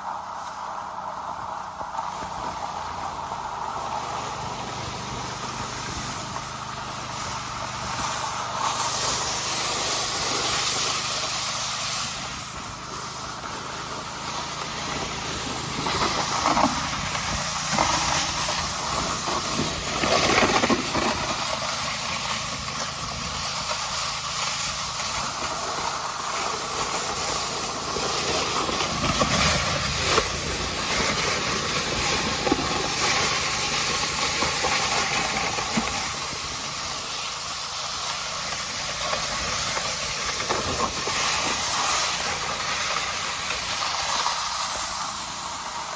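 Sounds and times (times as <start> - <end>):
vehicle rushing hiss: 0.0 - 45.9.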